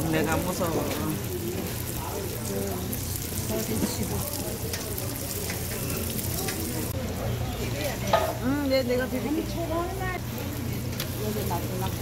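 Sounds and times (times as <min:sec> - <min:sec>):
pancakes sizzling in oil: 0:00.0 - 0:12.0.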